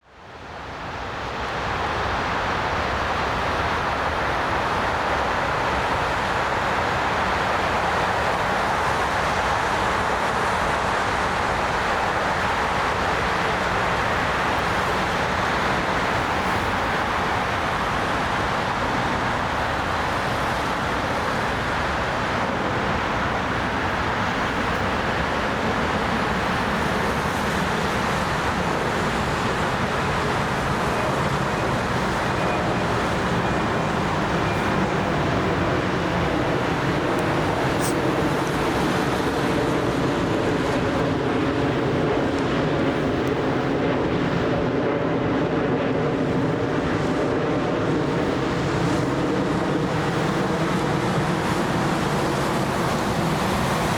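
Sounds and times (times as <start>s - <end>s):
jet engine roar: 0.2s - 53.9s.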